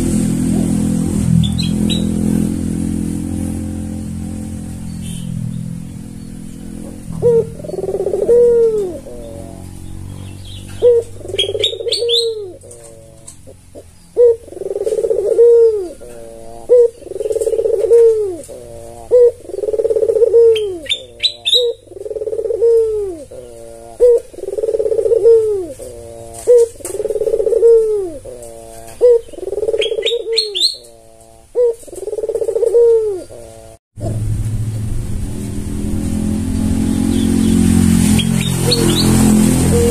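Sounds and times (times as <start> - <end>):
dove cooing: 1.4 - 34.2, 37.1 - 39.9.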